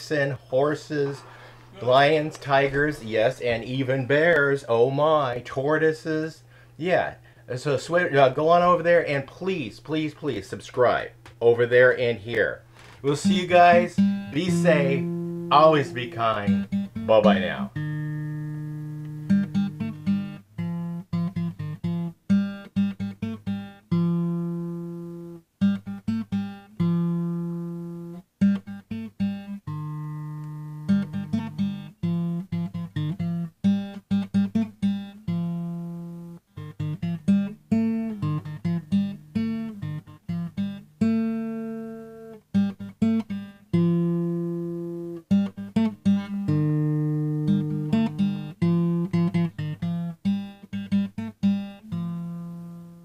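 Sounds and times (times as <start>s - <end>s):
plucked acoustic guitar: 0.0s - 5.5s, 13.0s - 53.0s.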